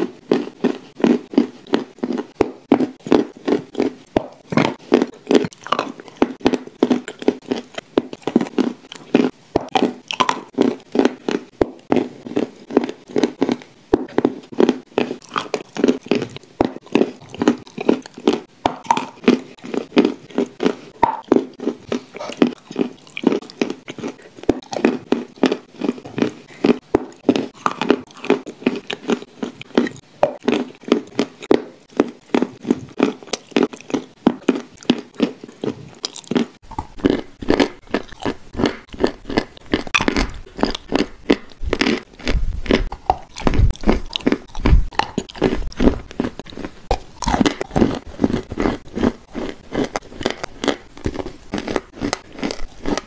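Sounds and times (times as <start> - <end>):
chewing and crunching cookie: 0.0 - 53.0.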